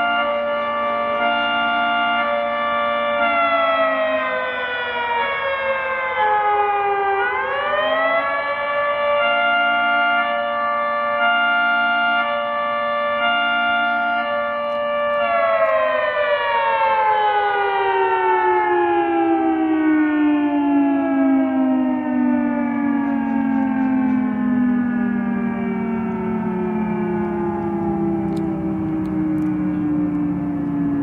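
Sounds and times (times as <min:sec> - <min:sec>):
three-tone siren sounding a chord: 0:00.0 - 0:31.0.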